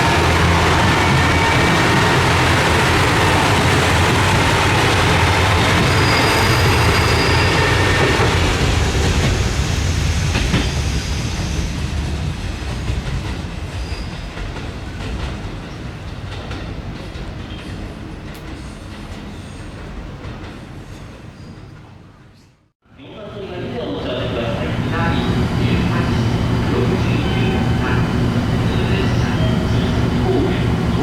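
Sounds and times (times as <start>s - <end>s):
diesel train running past: 0.0s - 21.3s, 23.0s - 31.0s.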